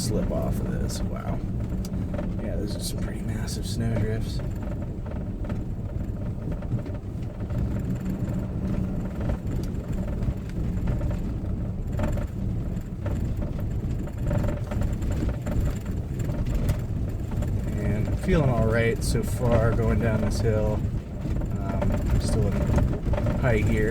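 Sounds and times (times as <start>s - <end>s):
car engine and tyre rumble: 0.0s - 23.9s.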